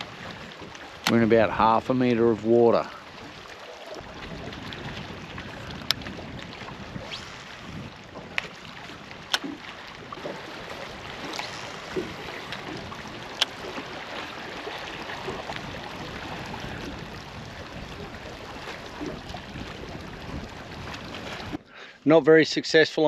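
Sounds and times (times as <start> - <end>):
water lapping against boat hull: 0.0 - 21.9.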